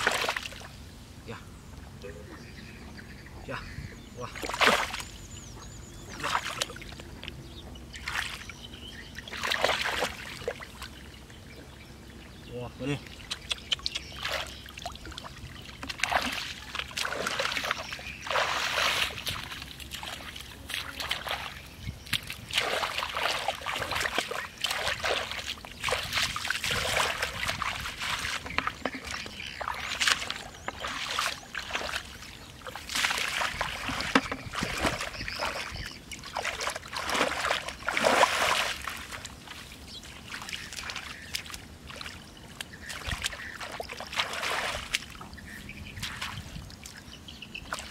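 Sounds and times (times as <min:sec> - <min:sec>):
muddy water splashing: 0:00.0 - 0:00.8, 0:01.8 - 0:47.9.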